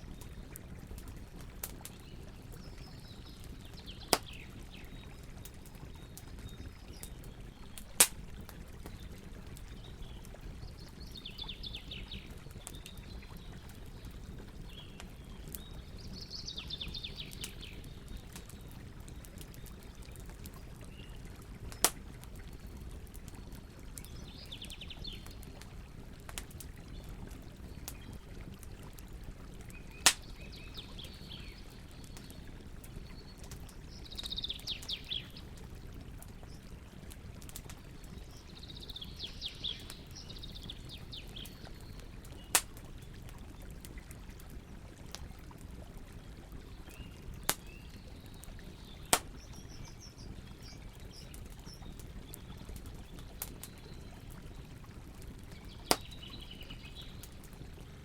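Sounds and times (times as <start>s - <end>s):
campfire burning: 0.0s - 58.0s
campfire crackling pops: 0.1s - 38.4s, 39.0s - 40.2s, 40.9s - 45.6s, 46.9s - 53.8s, 55.2s - 58.0s.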